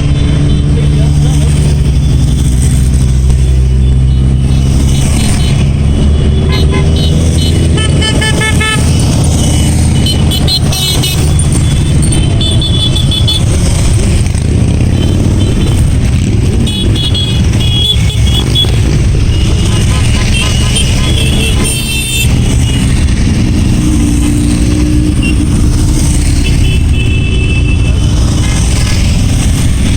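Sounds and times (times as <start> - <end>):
horns beeping: 0.0 - 24.1, 24.9 - 28.2
motorcycles riding past: 0.0 - 29.9.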